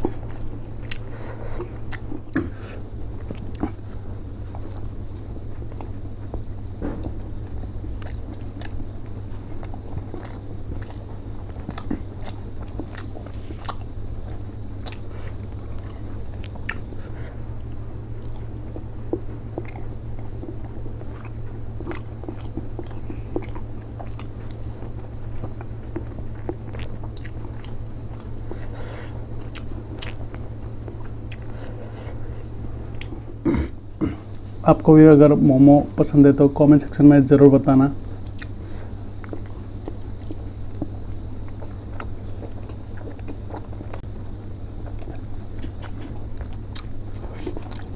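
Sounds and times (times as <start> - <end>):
close-up chewing and mouth sounds: 0.0 - 34.6, 38.0 - 47.9
steady low hum: 0.0 - 47.9.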